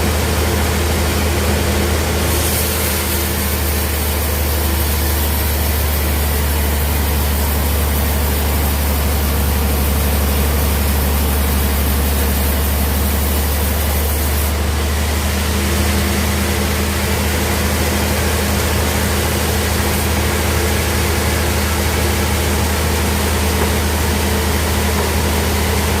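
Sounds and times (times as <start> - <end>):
bandsaw running: 0.0 - 26.0.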